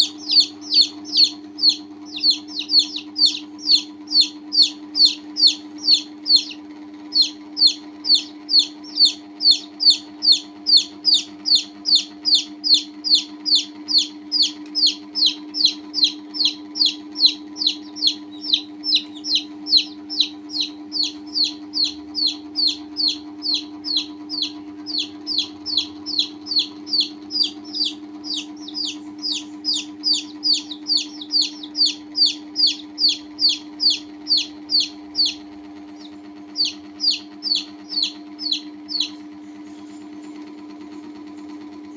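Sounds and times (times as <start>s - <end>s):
baby chick peeping: 0.0s - 41.9s
steady low hum: 0.0s - 41.9s.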